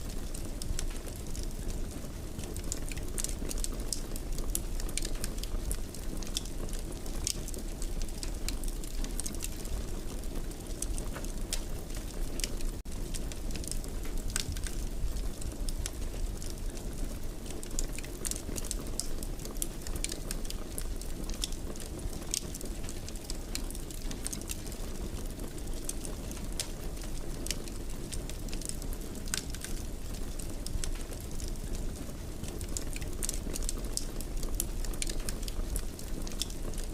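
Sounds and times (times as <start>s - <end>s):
fire crackling with pops and snaps: 0.0s - 36.9s.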